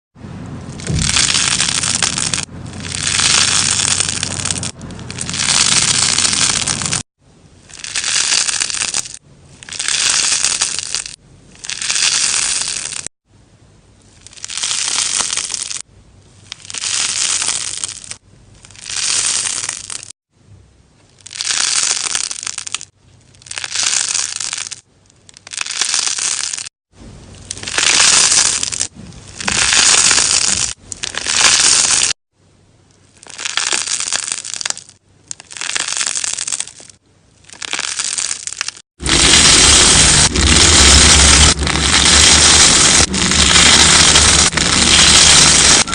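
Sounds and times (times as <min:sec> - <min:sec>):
crunchy slime crackling and popping: 0:00.7 - 0:13.1, 0:14.1 - 0:20.2, 0:21.2 - 0:26.7, 0:27.3 - 0:32.2, 0:33.1 - 0:45.9.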